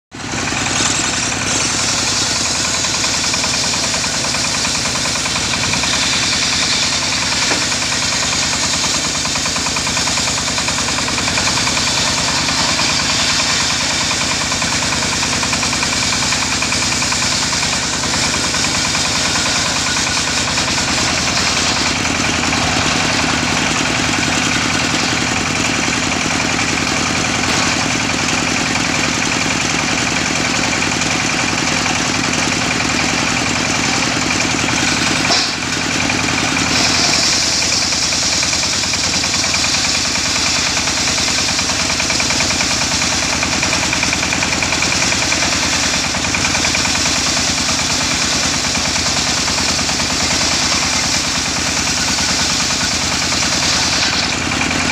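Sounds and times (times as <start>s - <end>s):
circular saw cutting log: 0.1s - 54.9s
diesel engine running: 0.1s - 54.9s.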